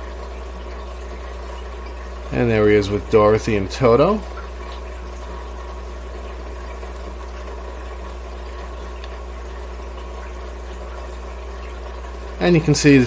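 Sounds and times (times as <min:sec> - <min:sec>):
low electrical hum with hiss: 0:00.0 - 0:13.0.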